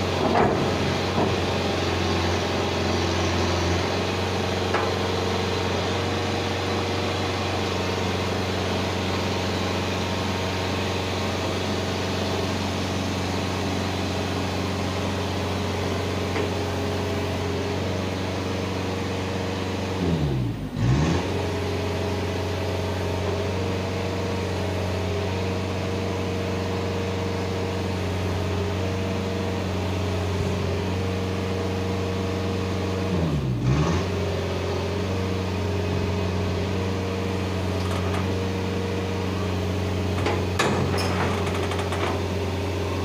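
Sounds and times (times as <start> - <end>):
engine running at raised revs: 0.0 - 43.0.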